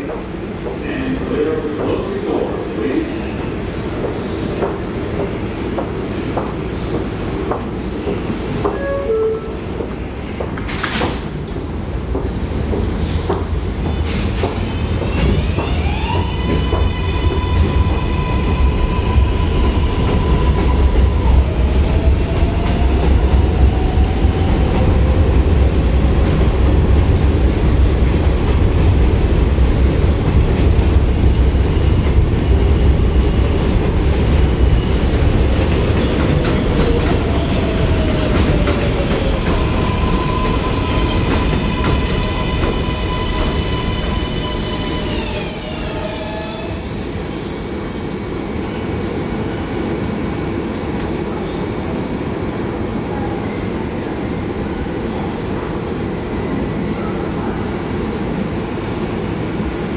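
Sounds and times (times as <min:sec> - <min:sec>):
subway train propulsion whine: 0:00.0 - 0:59.9.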